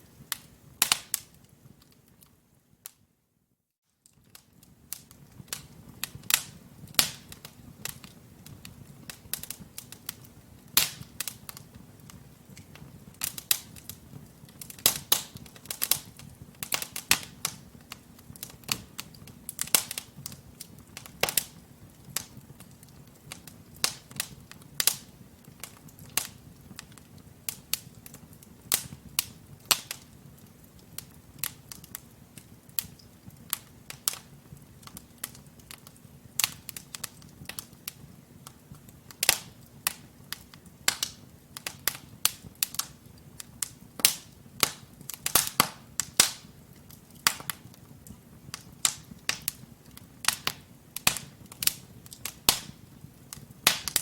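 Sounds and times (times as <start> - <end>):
logs crackling and popping: 0.1 - 3.0, 4.0 - 54.0
low rumble of flames: 4.2 - 54.0.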